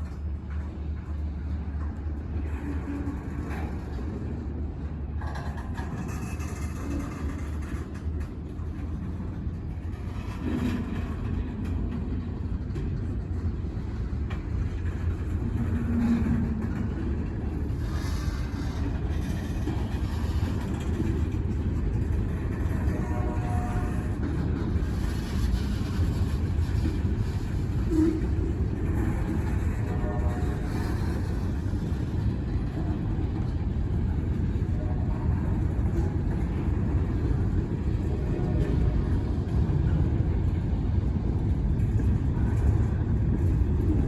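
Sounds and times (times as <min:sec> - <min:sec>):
freight train rumbling by: 0:00.0 - 0:44.0.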